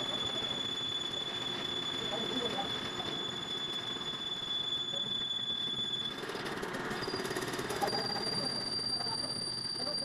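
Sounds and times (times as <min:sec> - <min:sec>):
workshop machine whining: 0:00.0 - 0:10.0.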